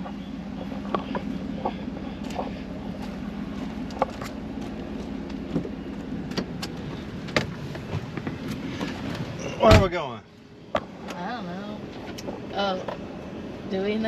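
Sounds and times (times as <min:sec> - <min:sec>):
car engine hum: 0:00.0 - 0:14.0.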